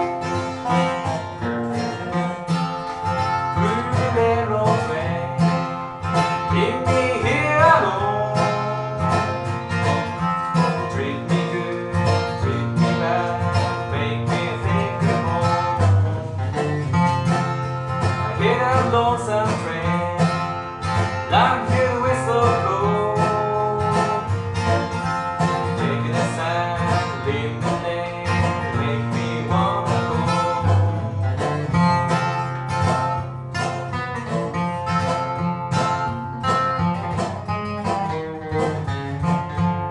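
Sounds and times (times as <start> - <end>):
acoustic guitar strumming: 0.0 - 39.9
resonator slide guitar lead: 0.0 - 39.9.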